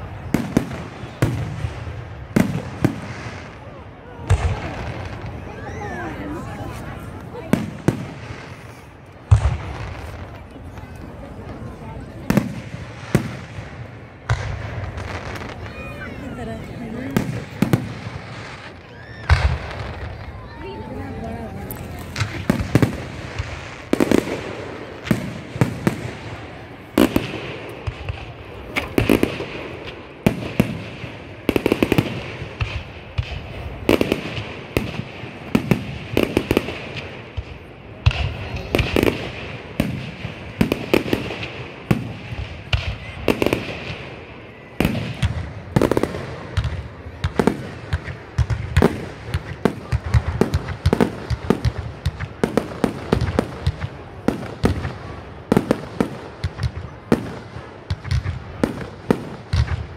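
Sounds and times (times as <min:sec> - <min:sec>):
fireworks bangs: 0:00.0 - 0:59.9
fireworks crackle: 0:00.0 - 0:59.9.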